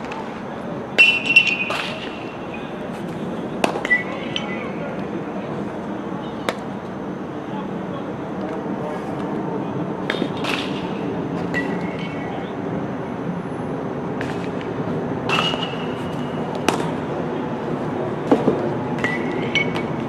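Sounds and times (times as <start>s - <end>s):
ballpark background noise: 0.0s - 20.0s.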